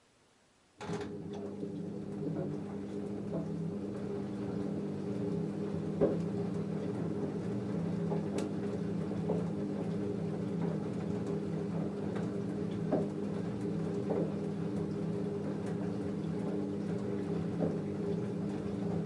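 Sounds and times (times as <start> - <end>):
washing machine motor hum: 0.8 - 19.0
soft knocks in washing drum: 1.3 - 19.0.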